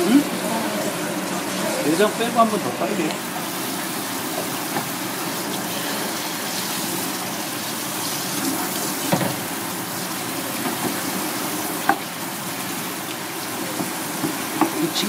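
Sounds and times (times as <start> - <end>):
running tap water: 0.0 - 15.0.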